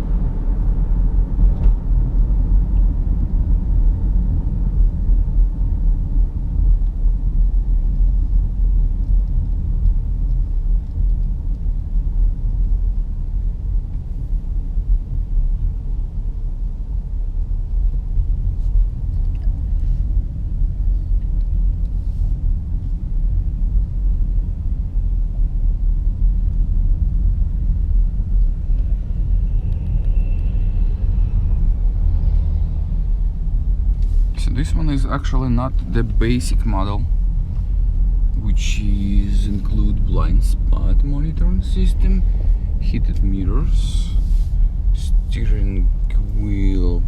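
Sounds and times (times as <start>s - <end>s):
car cabin road noise: 0.0s - 47.0s.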